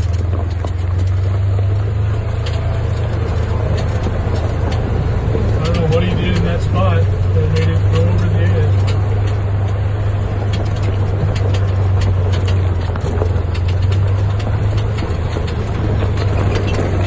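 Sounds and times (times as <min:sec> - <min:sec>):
off-road vehicle engine running: 0:00.0 - 0:17.0
sharp clicks and rattles: 0:00.0 - 0:17.0.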